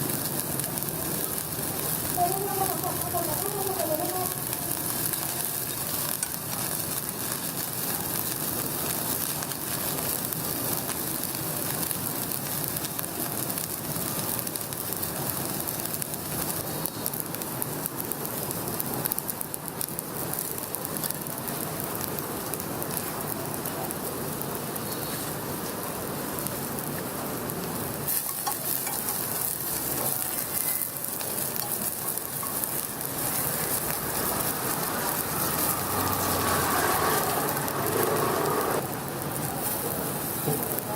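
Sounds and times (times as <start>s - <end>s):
food sizzling in a wok: 0.0s - 40.9s.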